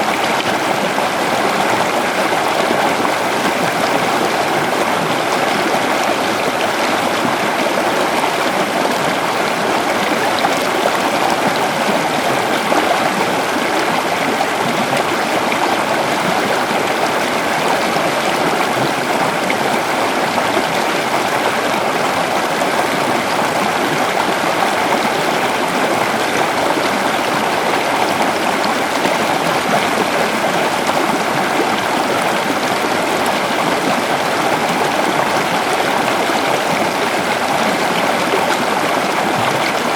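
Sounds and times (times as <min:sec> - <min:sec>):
river gurgling over stones: 0:00.0 - 0:39.9.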